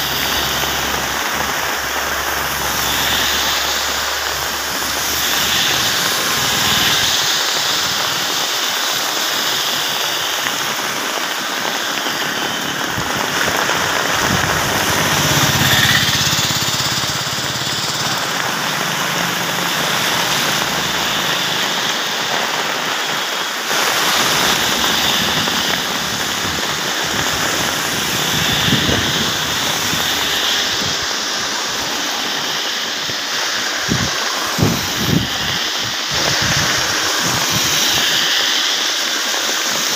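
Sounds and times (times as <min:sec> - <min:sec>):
heavy rain on wet road: 0:00.0 - 0:39.9
tyres hissing through water: 0:00.0 - 0:39.9.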